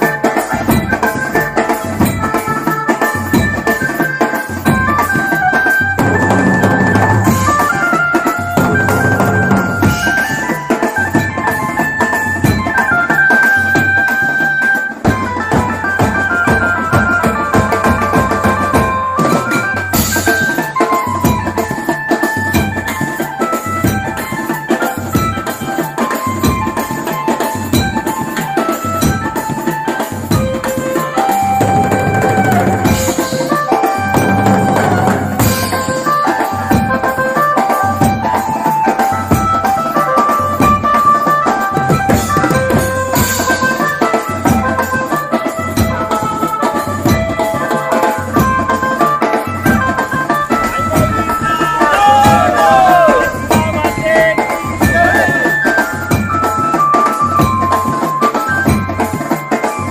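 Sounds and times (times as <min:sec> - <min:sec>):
melody of held notes: 0:00.0 - 0:59.5
steady drum beat: 0:00.0 - 0:59.8.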